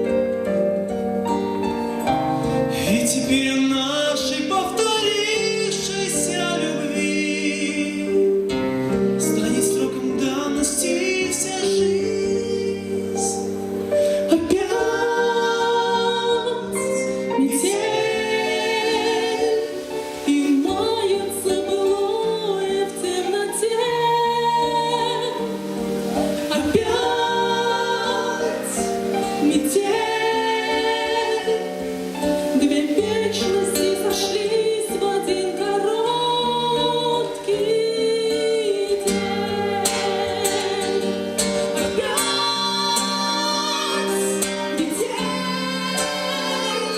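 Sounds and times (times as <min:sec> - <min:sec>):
electronic keyboard: 0:00.0 - 0:46.9
woman singing: 0:02.9 - 0:08.4, 0:09.2 - 0:46.9.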